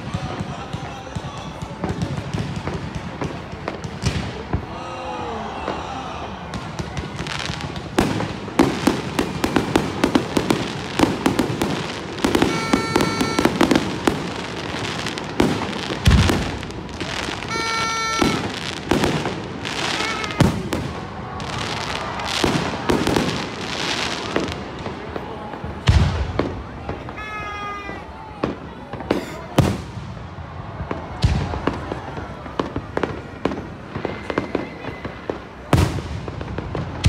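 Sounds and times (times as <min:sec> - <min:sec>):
deep fireworks booms: 0:00.0 - 0:37.0
fireworks bangs and crackling: 0:00.0 - 0:37.0.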